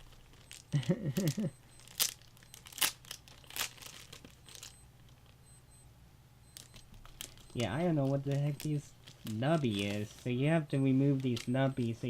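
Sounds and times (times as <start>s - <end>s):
plastic crinkling: 0.0s - 5.4s, 6.6s - 12.0s.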